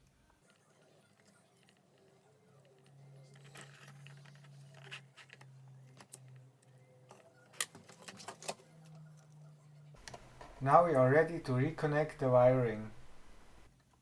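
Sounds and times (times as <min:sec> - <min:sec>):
low steady hum: 0:00.0 - 0:13.7.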